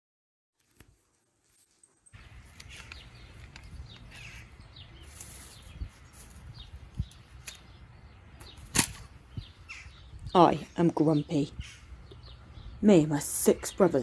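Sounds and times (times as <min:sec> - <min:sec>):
birds chirping: 0:01.8 - 0:14.0.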